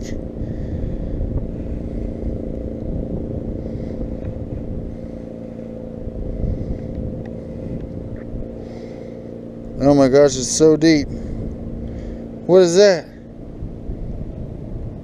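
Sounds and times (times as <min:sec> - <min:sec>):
engine-like hum: 0:00.0 - 0:15.0.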